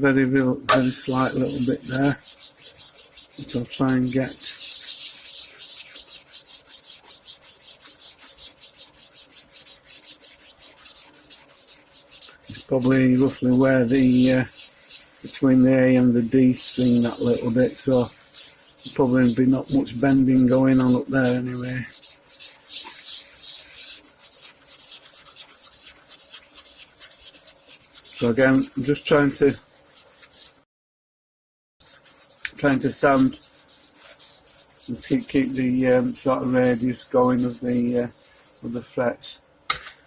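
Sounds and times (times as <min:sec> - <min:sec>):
abrasive paper sanding metal frets: 0:00.8 - 0:30.6, 0:31.8 - 0:38.7.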